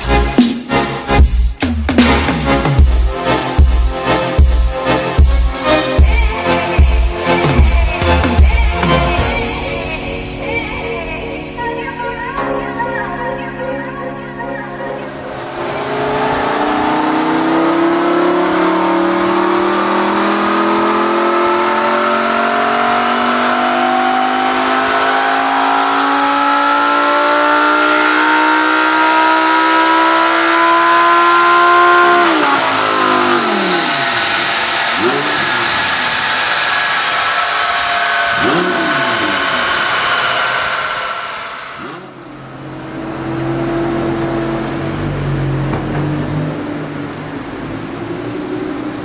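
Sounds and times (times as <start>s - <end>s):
car engine revving: 0.0s - 10.7s, 15.0s - 49.0s.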